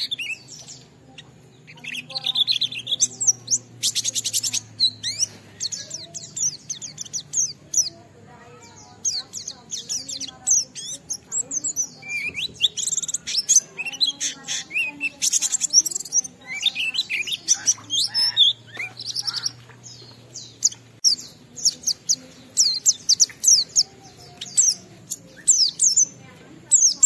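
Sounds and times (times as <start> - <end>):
bird singing rapid chirps: 0.0 - 27.0.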